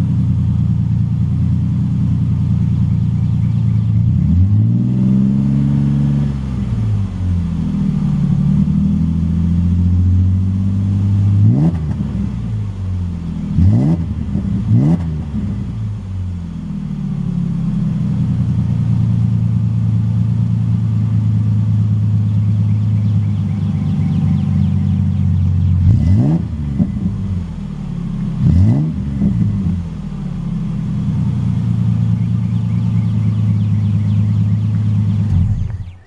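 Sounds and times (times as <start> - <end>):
car engine revving and idling: 0.0 - 36.0.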